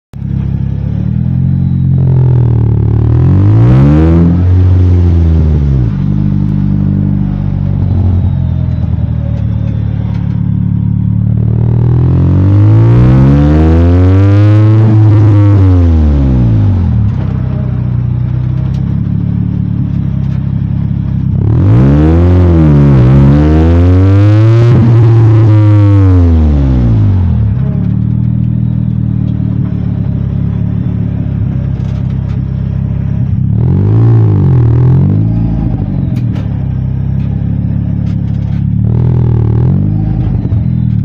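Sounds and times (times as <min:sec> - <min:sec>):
car engine idling and revving: 0:00.1 - 0:41.0.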